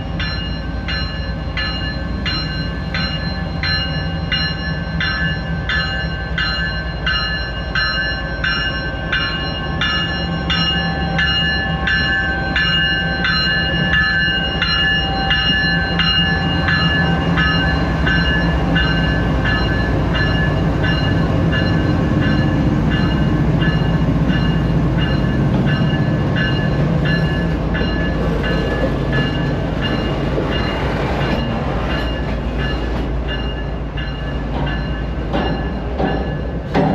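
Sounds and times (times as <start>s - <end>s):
diesel locomotive engines rumbling: 0.0s - 36.9s
train bell ringing: 0.0s - 36.9s
train wheels rolling: 0.2s - 36.9s.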